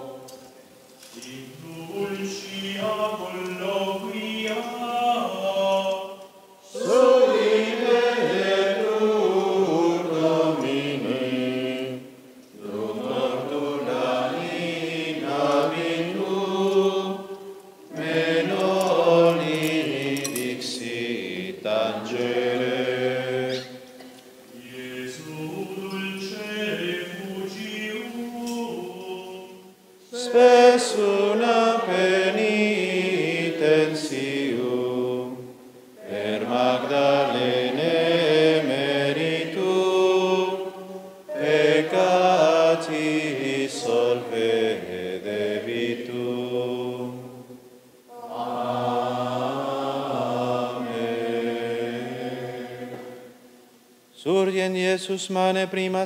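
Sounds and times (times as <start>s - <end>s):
men singing a chant together: 1.2s - 12.0s, 12.6s - 17.3s, 17.9s - 23.7s, 24.5s - 35.4s, 36.0s - 47.3s, 48.3s - 53.2s.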